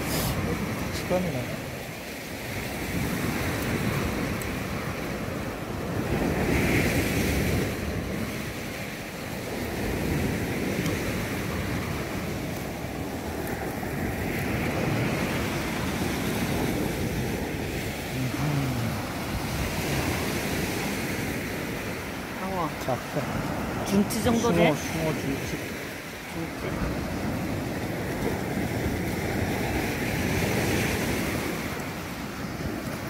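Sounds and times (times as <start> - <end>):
sea surf breaking: 0.0 - 33.0
wind buffeting microphone: 0.0 - 33.0.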